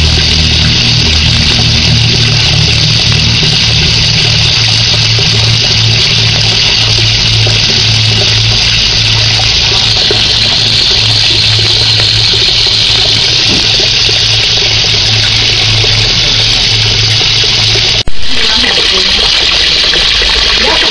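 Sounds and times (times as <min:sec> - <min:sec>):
low pump hum: 0:00.0 - 0:20.9
water splashing into pond: 0:00.0 - 0:20.9.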